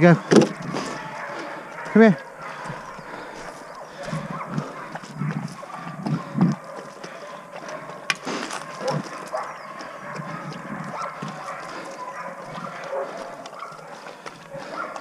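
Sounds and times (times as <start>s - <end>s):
sled dogs vocalising: 0.0s - 15.0s.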